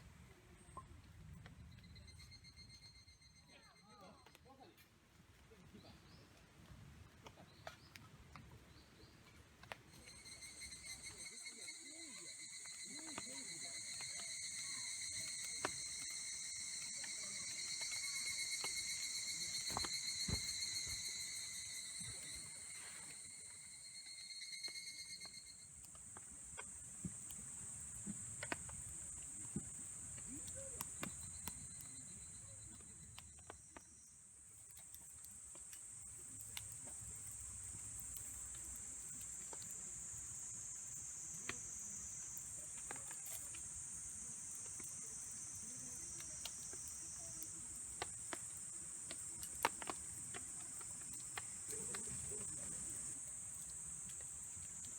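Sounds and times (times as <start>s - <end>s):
low steady insect trill: 0.3s - 4.8s, 8.6s - 54.9s
insects chirring chorus: 1.7s - 4.2s, 9.9s - 54.9s.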